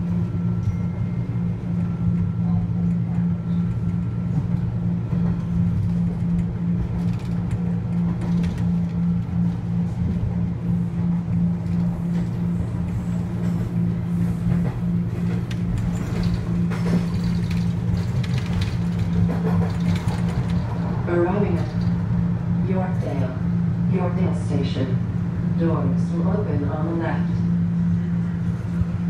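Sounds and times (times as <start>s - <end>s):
low hum: 0.0s - 29.0s
train wheels rumbling on rails: 0.0s - 29.0s.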